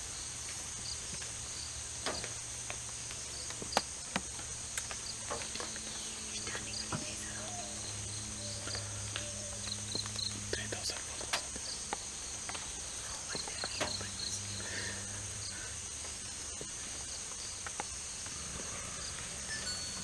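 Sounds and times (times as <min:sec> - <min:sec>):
forest insects chorus: 0:00.0 - 0:20.0.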